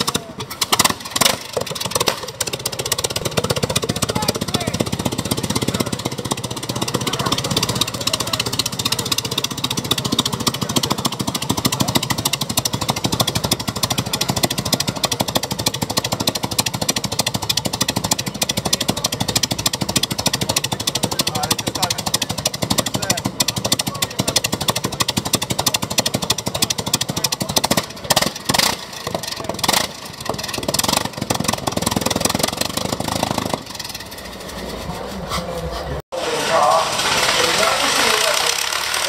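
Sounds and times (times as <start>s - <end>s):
engine running at low speed: 0.0s - 39.0s.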